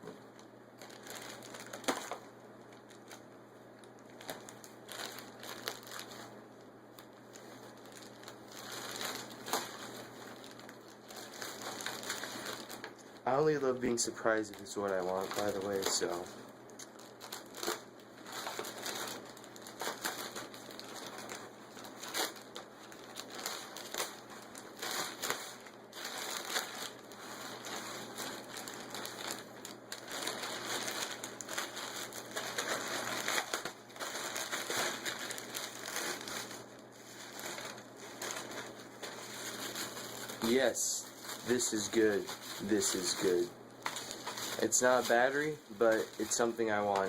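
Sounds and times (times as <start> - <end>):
packaging rustling and crinkling: 0.0 - 47.0.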